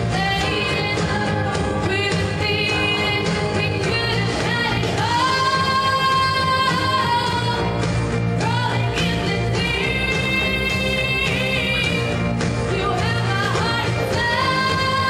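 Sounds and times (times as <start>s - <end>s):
pop backing music: 0.0s - 15.0s
woman singing into microphone: 0.0s - 15.0s.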